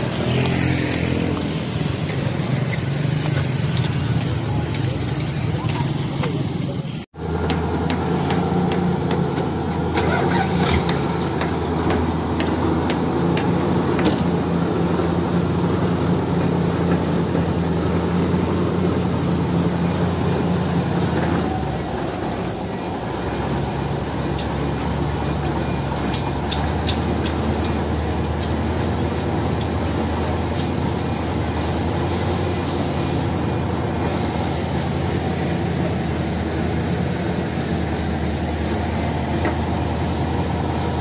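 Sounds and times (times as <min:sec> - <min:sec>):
diesel truck engine idling: 0:01.6 - 0:41.0.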